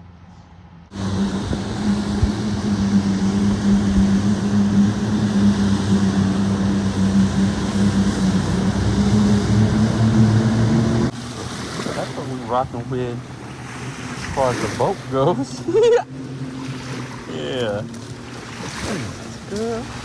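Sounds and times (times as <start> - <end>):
small boat motor running: 0.7 - 20.0.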